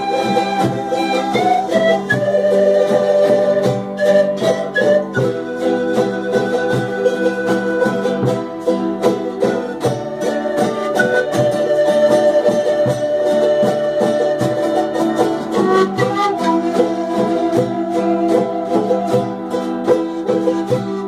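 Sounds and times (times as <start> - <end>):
fast strumming on string instruments: 0.0 - 21.0
held melody note: 0.0 - 21.0.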